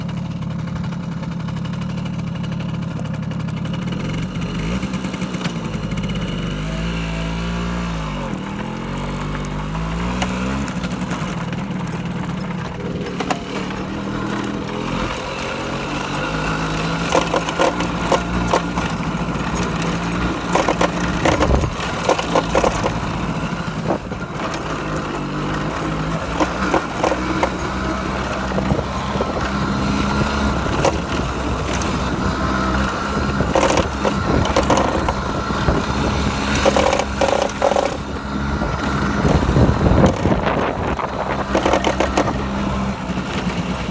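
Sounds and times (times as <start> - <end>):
scooter two-stroke engine running: 0.0 - 43.9
front fork rattling: 7.3 - 43.9.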